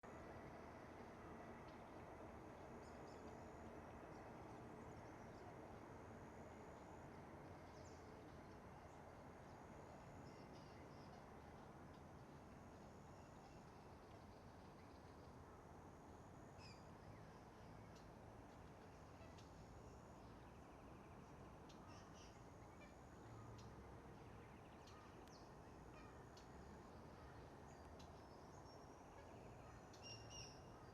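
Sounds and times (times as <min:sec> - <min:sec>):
low background noise: 0:00.0 - 0:30.9
quiet background hiss: 0:00.1 - 0:30.9.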